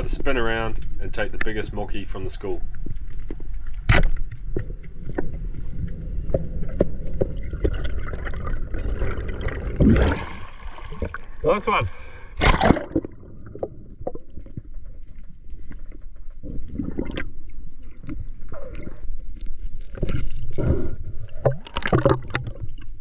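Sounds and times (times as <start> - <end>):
water sloshing and gurgling: 0.0 - 23.0
water splashing: 2.9 - 23.0.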